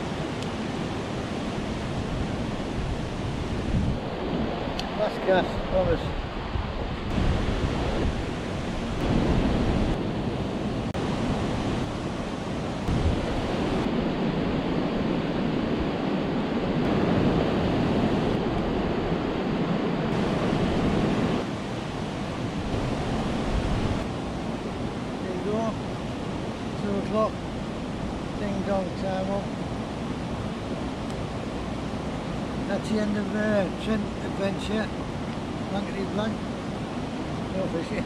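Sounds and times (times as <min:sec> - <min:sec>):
water rushing over weir: 0:00.0 - 0:38.0.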